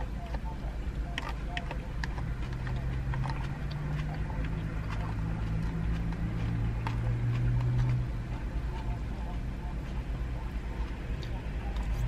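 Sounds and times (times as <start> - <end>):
chewing salad: 0.0 - 12.0
low car cabin hum: 0.0 - 12.0.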